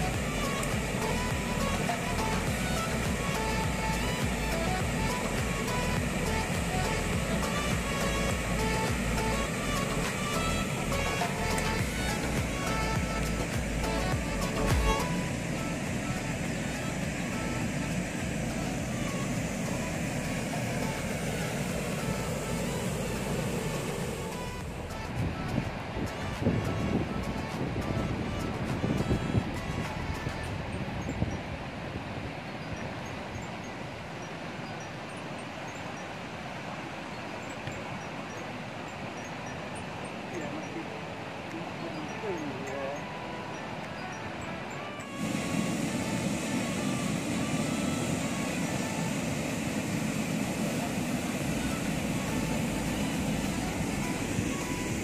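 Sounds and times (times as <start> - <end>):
river water flowing over rocks: 0.0 - 55.0.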